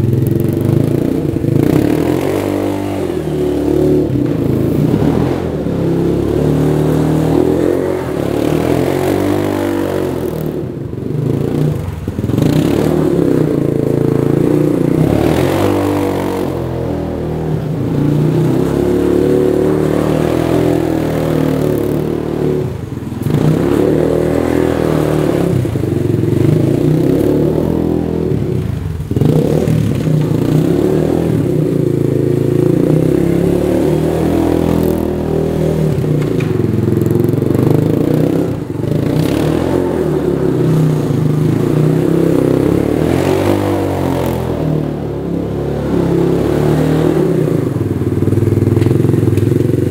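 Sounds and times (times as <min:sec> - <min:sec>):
quad engine revving: 0:00.0 - 0:49.9.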